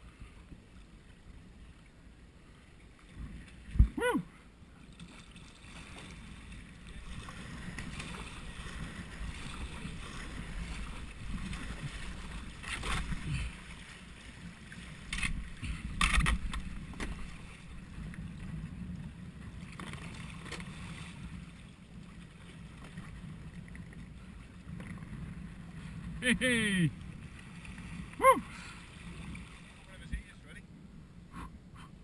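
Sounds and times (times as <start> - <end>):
water lapping around hull: 0.0 - 32.0
water splashes: 2.8 - 18.6, 19.4 - 30.6.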